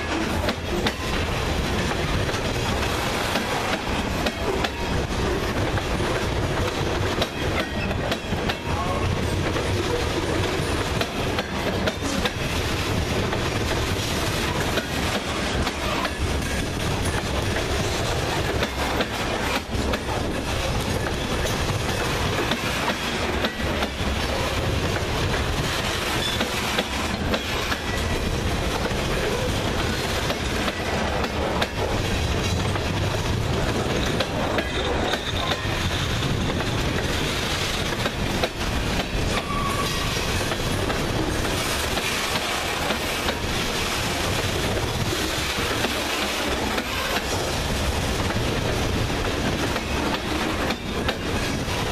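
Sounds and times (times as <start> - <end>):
clickety-clack over rail joints: 0.0 - 51.9
steel wheels rumbling on rail: 0.0 - 51.9.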